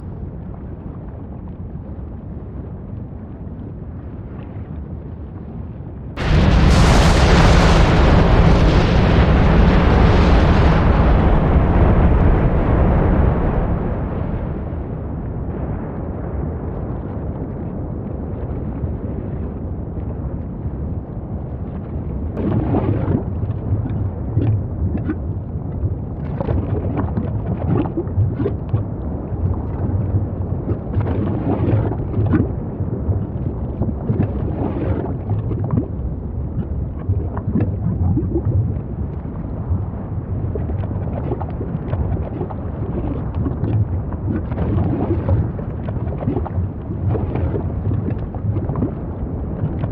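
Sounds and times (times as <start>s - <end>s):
volcanic deep rumble: 0.0s - 49.9s
crackling bursts: 6.2s - 19.5s, 21.4s - 49.9s.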